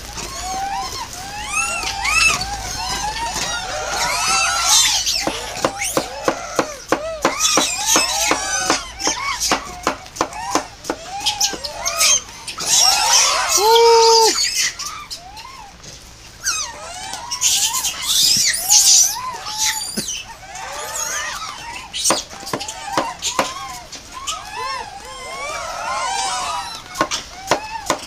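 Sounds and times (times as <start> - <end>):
monkey held call: 0.0 - 28.0
monkeys screaming: 0.0 - 28.0
monkeys squeaking and chirping: 0.0 - 28.0.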